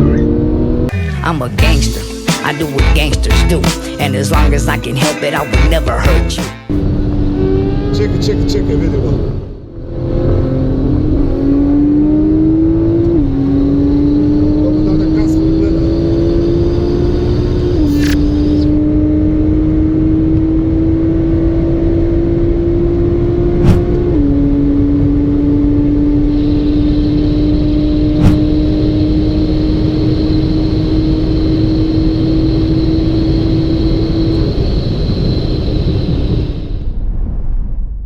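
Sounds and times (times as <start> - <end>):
wind and road noise: 0.0 - 0.9, 6.7 - 38.0
vehicle engine at high speed: 0.0 - 2.0, 6.7 - 36.6.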